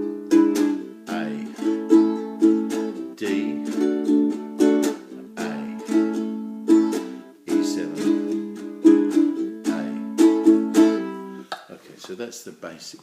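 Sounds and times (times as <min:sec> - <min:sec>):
ukulele strumming: 0:00.0 - 0:11.7.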